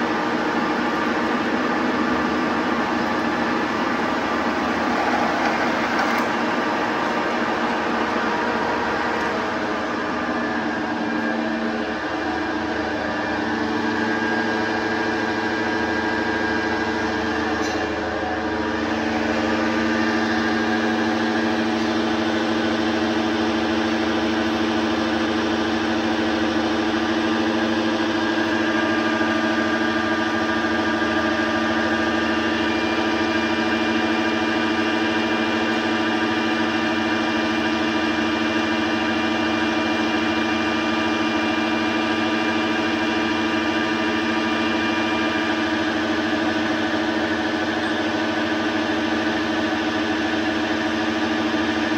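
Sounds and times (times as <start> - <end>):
metal lathe humming: 0.0 - 51.9.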